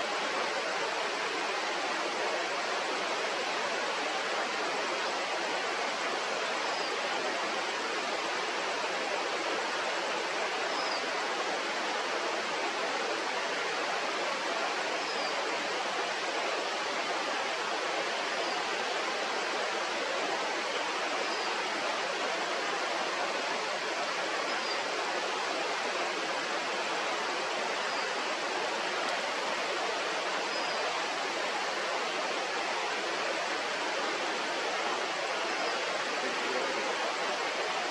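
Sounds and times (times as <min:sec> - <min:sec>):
river water flowing: 0:00.0 - 0:37.9.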